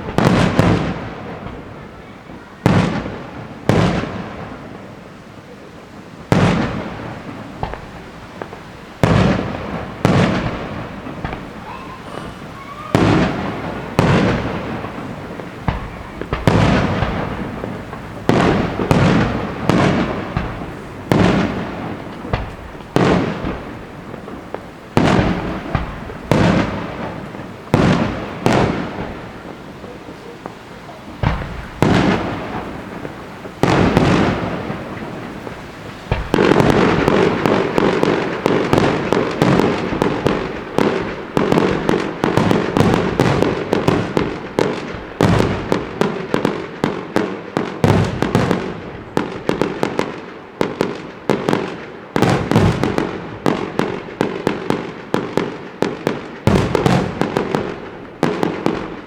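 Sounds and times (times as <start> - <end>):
fireworks exploding: 0.0 - 59.0.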